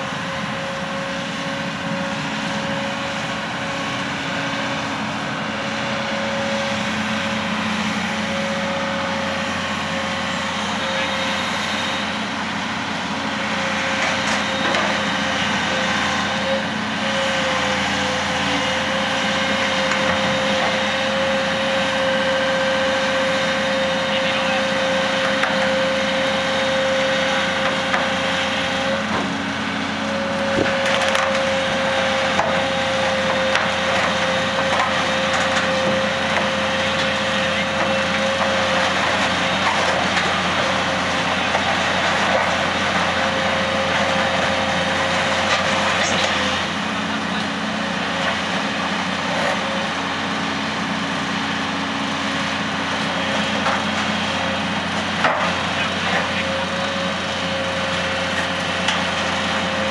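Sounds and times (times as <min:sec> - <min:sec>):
diesel machinery high whine: 0:00.0 - 0:59.9.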